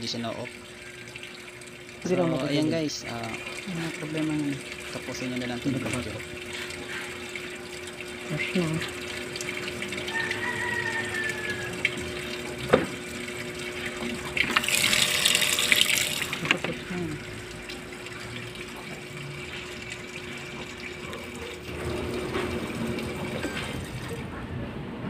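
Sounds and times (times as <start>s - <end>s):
water filling washing machine: 0.0s - 25.0s.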